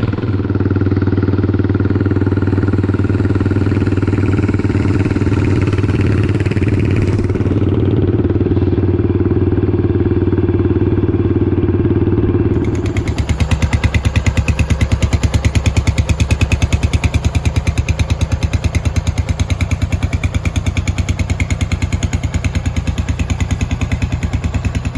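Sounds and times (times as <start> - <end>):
motorcycle exhaust beat: 0.0 - 10.2, 12.5 - 24.9.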